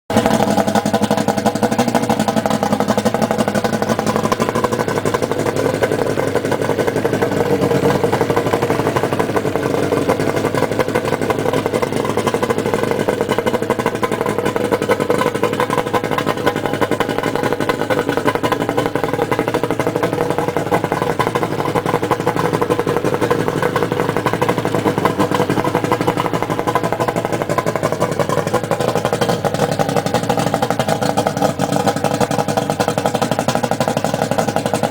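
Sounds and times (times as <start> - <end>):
outboard motor running: 0.1 - 34.9.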